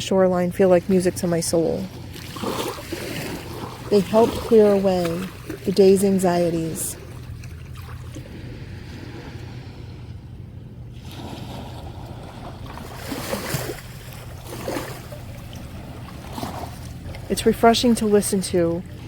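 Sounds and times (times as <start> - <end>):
ocean waves on shore: 0.0 - 19.0.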